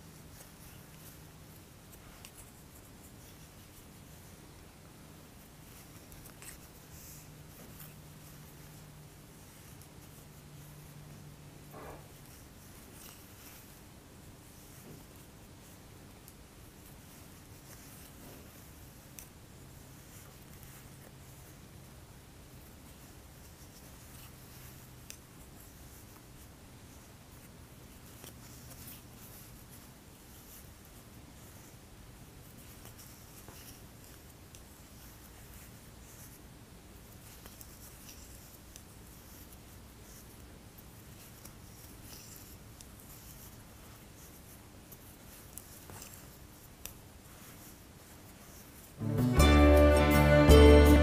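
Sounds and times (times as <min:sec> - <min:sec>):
faint steady hum: 0:00.0 - 0:51.0
yarn rubbing over knitting needles: 0:00.1 - 0:04.4, 0:05.2 - 0:11.3, 0:12.0 - 0:21.7, 0:22.6 - 0:51.0.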